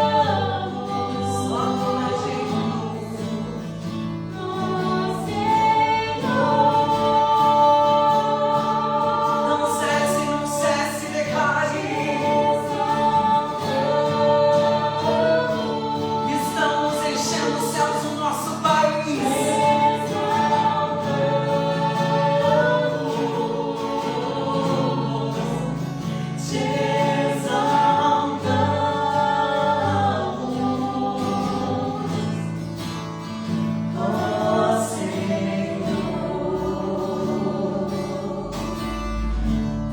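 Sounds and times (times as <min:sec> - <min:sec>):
group singing worship music: 0:00.0 - 0:39.9.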